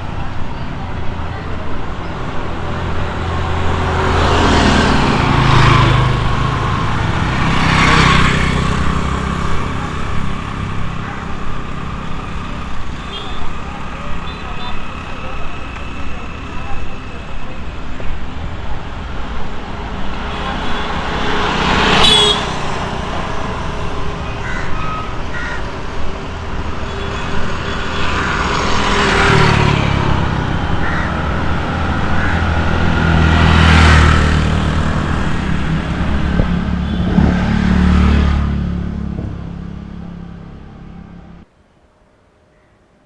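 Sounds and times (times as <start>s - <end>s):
vehicles passing by: 0.0s - 41.7s.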